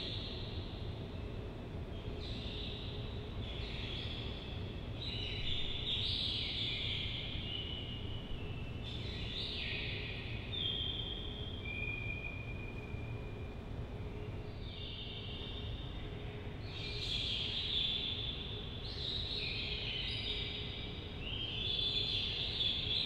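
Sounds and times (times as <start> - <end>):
steady low hum: 0.0 - 21.5.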